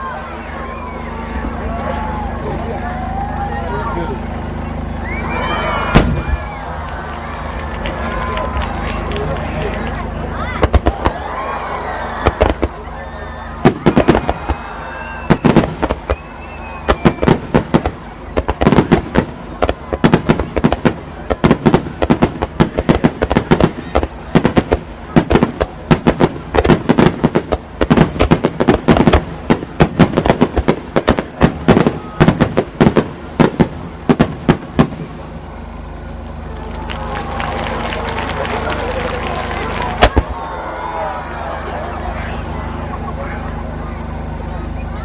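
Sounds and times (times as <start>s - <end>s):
fireworks bursting: 4.1s - 44.8s.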